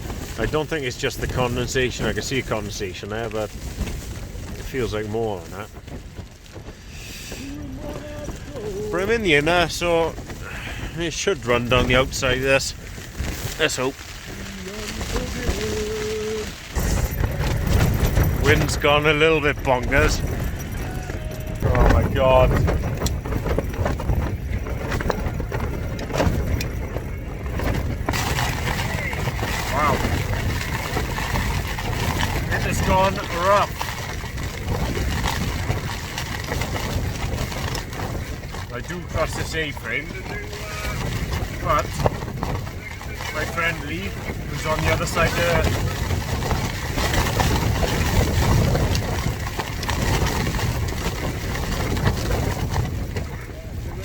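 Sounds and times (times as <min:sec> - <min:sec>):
tent fabric cracking: 0:00.0 - 0:54.0
wind buffeting a tent: 0:00.0 - 0:54.0.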